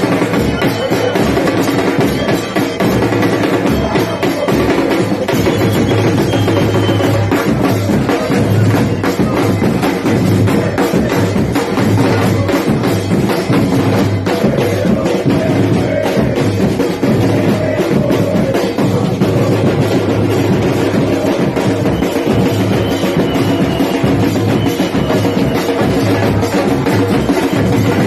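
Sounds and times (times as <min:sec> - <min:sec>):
sharp percussion strikes: 0:00.0 - 0:28.0.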